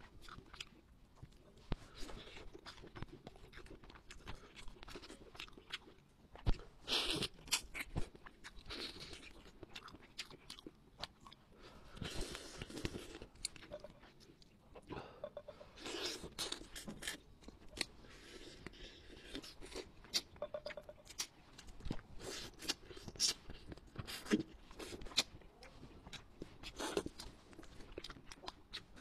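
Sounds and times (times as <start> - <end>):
chewing with wet mouth sounds: 0.0 - 29.0.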